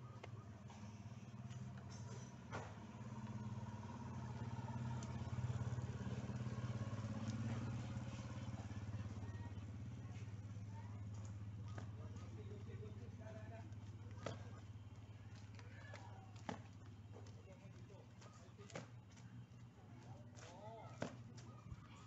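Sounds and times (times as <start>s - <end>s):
motorcycle passing: 0.0s - 22.0s.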